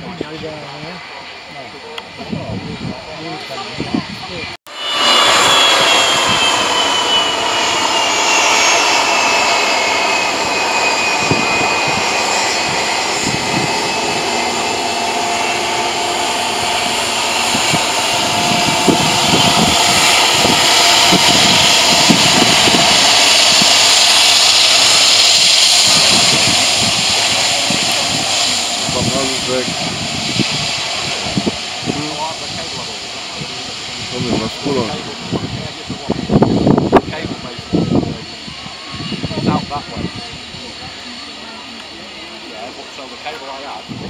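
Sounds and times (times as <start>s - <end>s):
jet engines whining: 0.0s - 44.0s.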